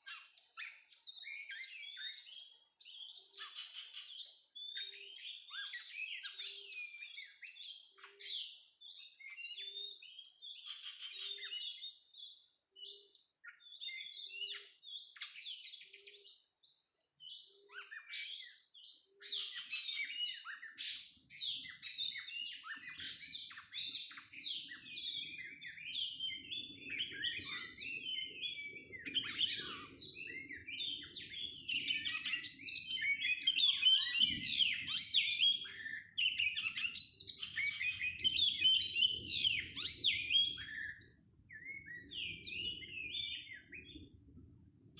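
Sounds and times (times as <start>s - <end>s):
bird singing chirps and whistles: 0.0s - 44.9s.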